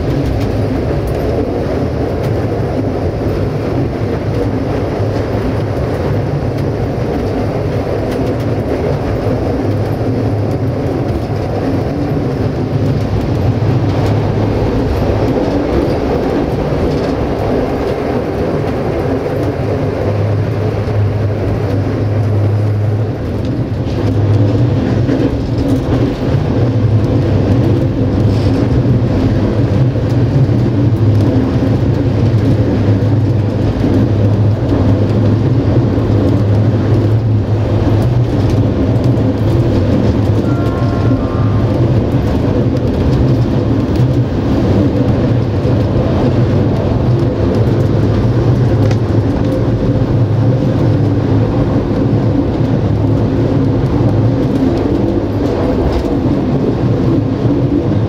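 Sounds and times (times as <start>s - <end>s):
deep steady drone: 0.0s - 58.0s
train wheels rumbling on rails: 0.0s - 58.0s.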